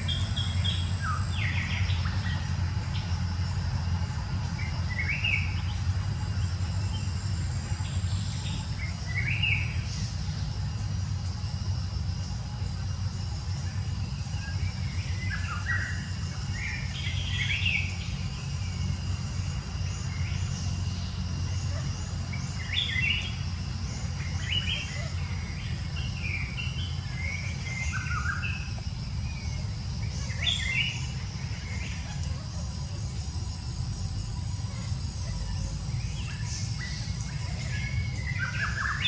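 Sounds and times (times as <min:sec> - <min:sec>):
birds chirping: 0:00.0 - 0:39.0
high insect drone: 0:00.0 - 0:39.0.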